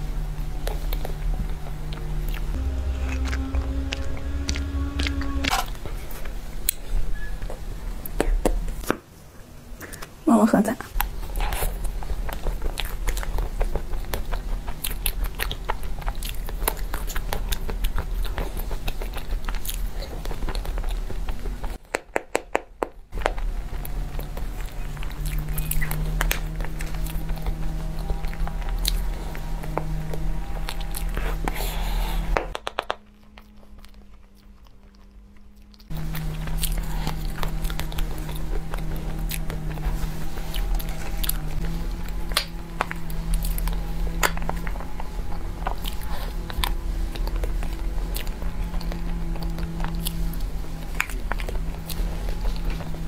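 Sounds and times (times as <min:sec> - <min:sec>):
chewing: 0:00.0 - 0:08.8, 0:10.9 - 0:21.8, 0:23.2 - 0:53.0.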